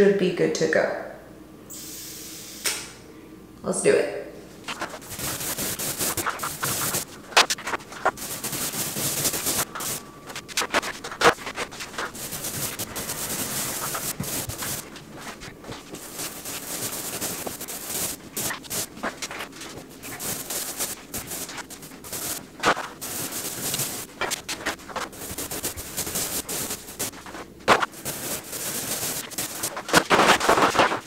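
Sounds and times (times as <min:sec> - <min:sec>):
paint roller rasping on ceiling: 0:04.7 - 0:31.0.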